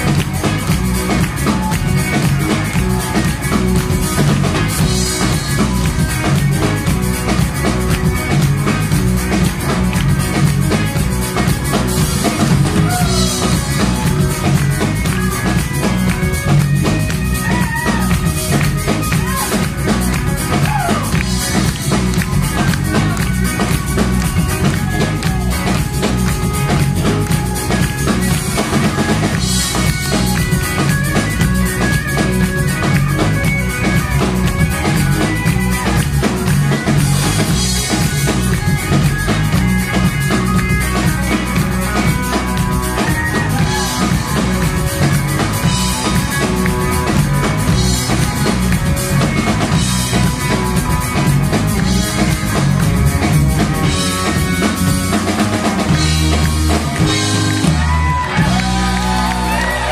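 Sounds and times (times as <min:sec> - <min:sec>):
drum kit beat: 0:00.0 - 0:59.9
electric guitar: 0:00.0 - 0:59.9.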